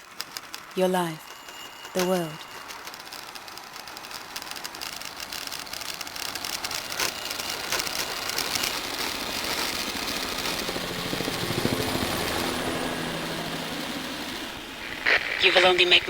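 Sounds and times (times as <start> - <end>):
rapid mechanical rattle: 0.0 - 15.1.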